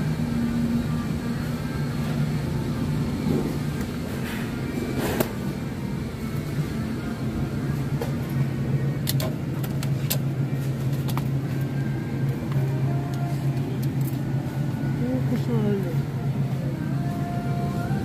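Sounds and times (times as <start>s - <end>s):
freezer cases humming: 0.0s - 18.0s.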